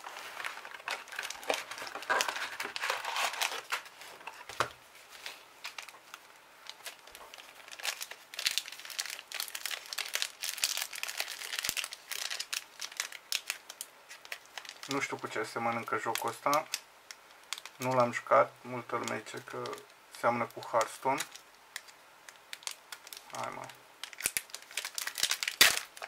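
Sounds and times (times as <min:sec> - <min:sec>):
foil packs crinkling: 0:00.0 - 0:16.8, 0:17.4 - 0:18.2, 0:18.8 - 0:26.0.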